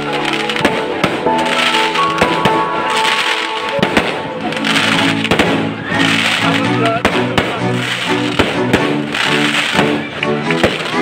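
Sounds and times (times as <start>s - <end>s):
fireworks bangs and crackles: 0.0s - 11.0s
music playing: 0.0s - 11.0s.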